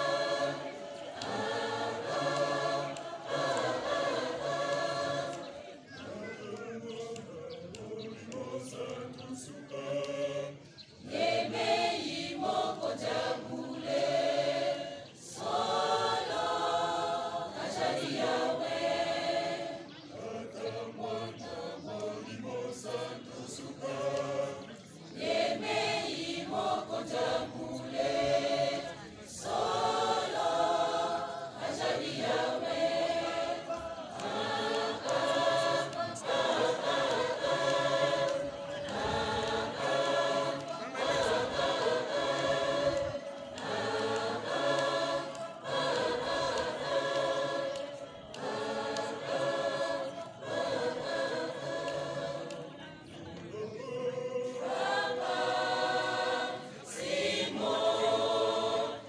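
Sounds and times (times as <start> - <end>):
mixed choir singing in harmony: 0.0 - 59.0.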